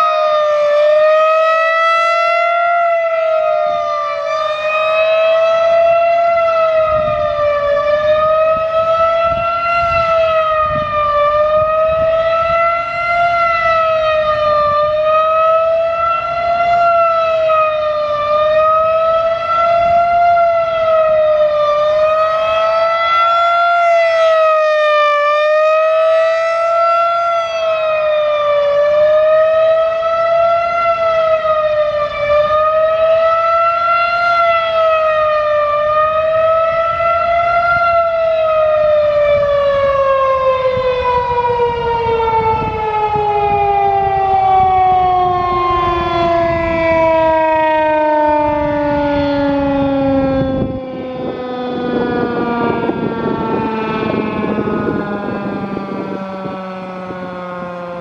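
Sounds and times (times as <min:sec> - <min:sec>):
rotating siren wailing: 0:00.0 - 0:58.0.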